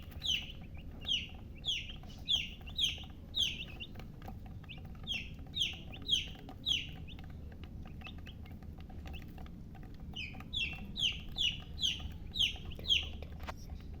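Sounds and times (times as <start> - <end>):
baby chicks peeping: 0.0 - 14.0.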